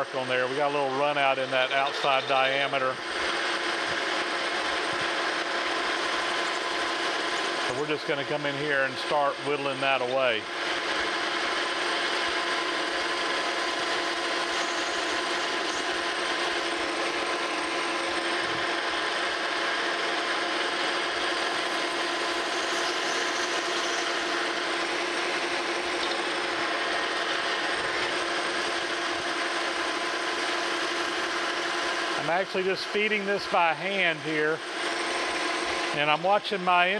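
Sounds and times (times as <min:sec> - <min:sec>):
metal lathe cutting steel: 0:00.0 - 0:36.9.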